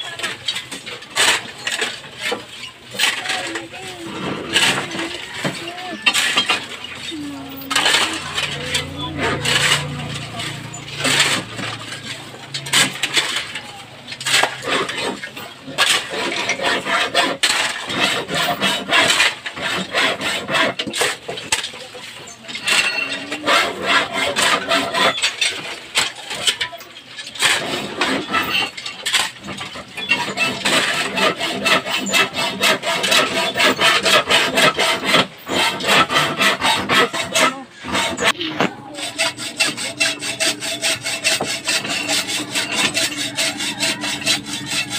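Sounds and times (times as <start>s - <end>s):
hacksaw cutting steel: 0.0s - 44.9s
hammer chipping concrete: 0.0s - 44.9s.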